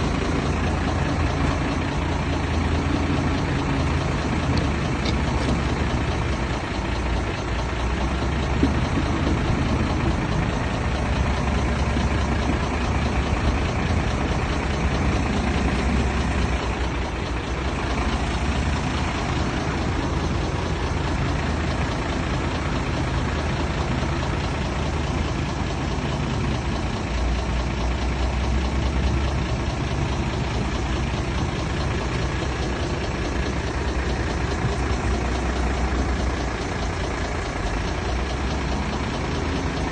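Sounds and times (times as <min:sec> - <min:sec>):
diesel engine deep rumble: 0:00.0 - 0:39.9.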